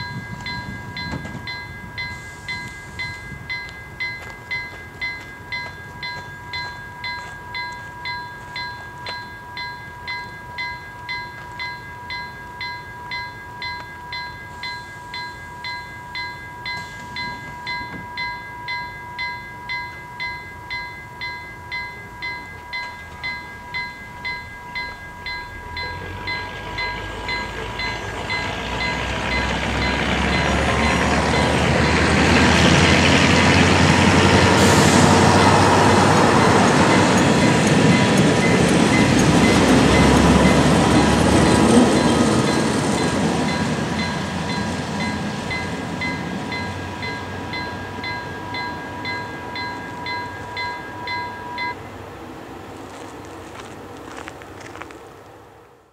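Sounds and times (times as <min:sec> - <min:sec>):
level crossing bell ringing: 0:00.0 - 0:34.3, 0:35.2 - 0:51.9
diesel railbus passing: 0:00.0 - 0:55.9.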